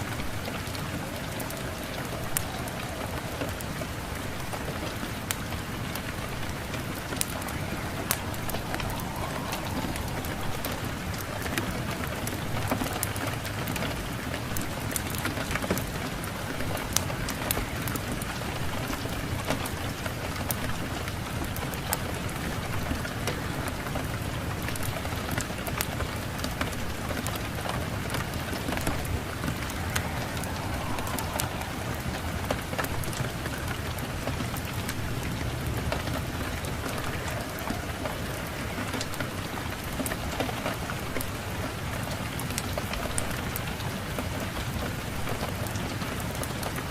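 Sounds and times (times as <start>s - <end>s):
crackling wood fire: 0.0s - 46.9s
steady rain: 0.0s - 46.9s.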